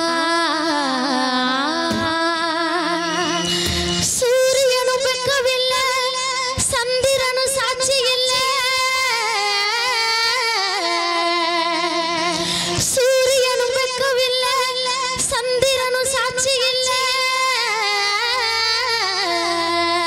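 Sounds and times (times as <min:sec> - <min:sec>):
woman singing folk song: 0:00.0 - 0:03.4, 0:04.0 - 0:20.0.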